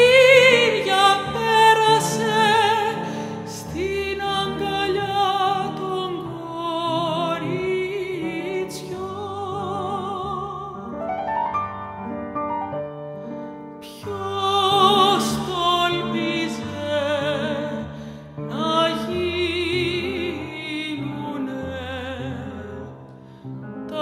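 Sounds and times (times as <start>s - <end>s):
woman singing classical: 0.0s - 11.2s, 13.6s - 24.0s
piano: 0.0s - 24.0s.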